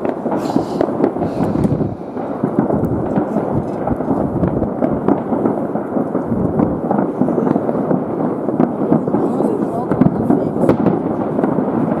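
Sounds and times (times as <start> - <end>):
fireworks rumble: 0.0 - 12.0.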